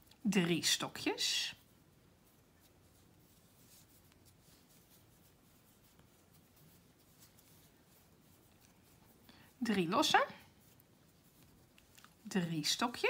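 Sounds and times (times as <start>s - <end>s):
crochet hook rustling yarn: 0.0s - 13.0s.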